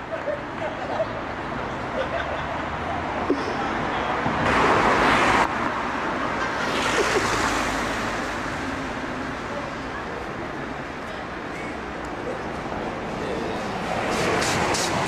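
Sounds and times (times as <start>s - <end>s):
cars passing on street: 0.0s - 15.0s.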